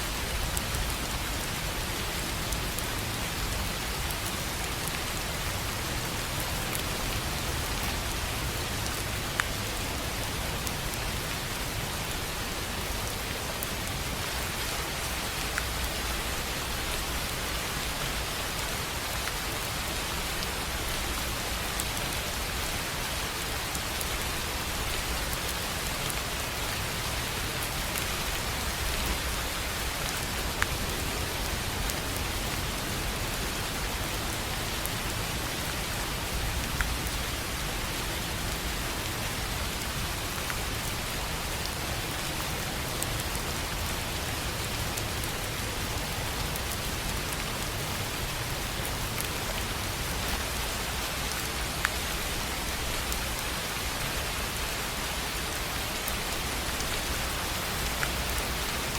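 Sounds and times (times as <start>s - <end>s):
rain on a tin roof: 0.0s - 58.9s.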